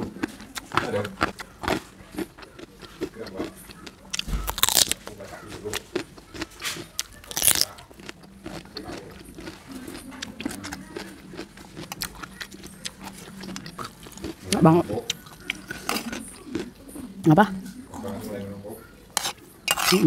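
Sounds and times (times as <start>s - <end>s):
cucumber crunching: 0.0s - 17.1s.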